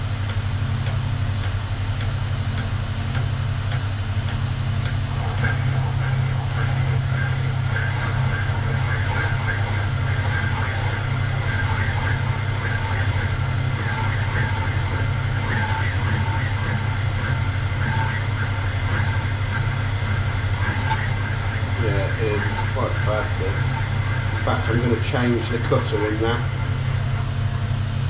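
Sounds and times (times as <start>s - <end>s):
motor hum: 0.0s - 28.0s
cutter chattering on metal: 2.0s - 27.3s.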